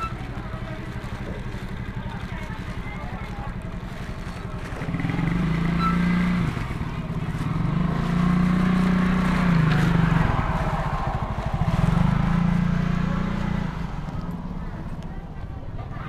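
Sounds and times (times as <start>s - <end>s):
scooter engine revving: 0.0s - 14.9s.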